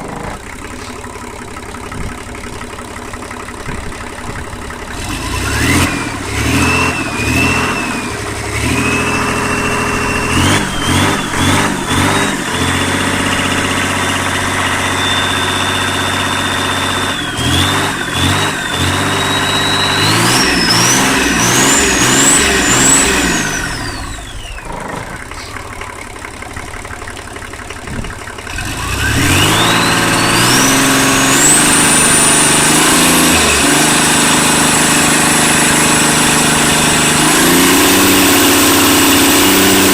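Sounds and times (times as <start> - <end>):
diesel engine revving: 0.0 - 39.9
high turbo whine: 0.0 - 39.9.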